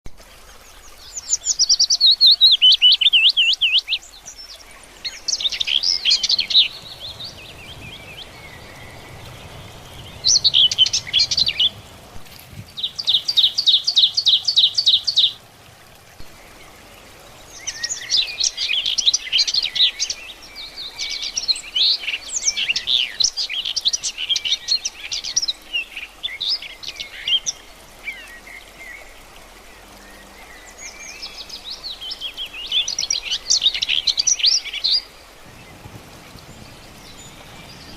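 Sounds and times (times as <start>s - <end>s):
songbird singing: 0.4s - 37.9s.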